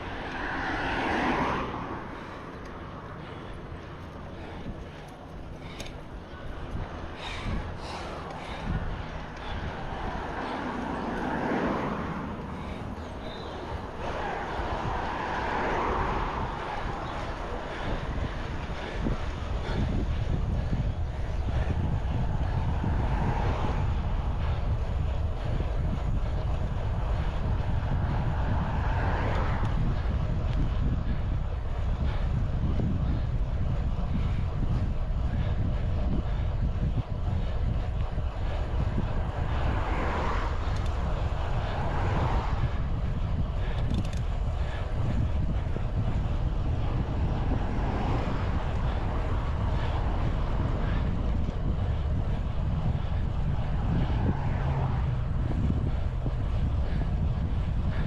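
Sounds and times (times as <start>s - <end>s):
bicycle road noise: 0.0s - 58.0s
wind rushing over microphone: 0.0s - 58.0s.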